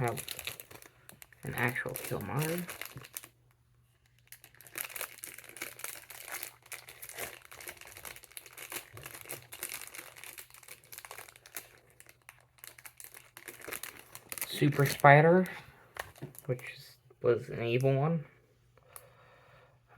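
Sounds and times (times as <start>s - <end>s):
plastic packets crinkling: 0.0s - 16.8s.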